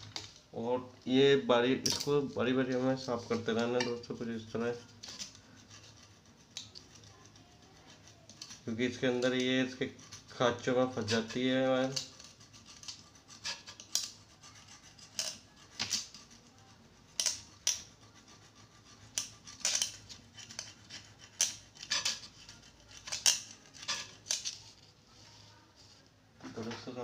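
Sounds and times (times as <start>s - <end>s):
tool scraping steel file: 1.3s - 27.0s.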